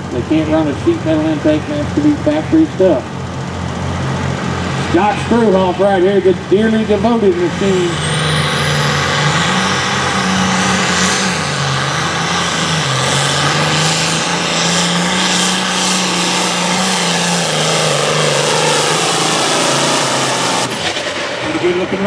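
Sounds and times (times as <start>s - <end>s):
tractor engine at high revs: 0.0s - 22.0s.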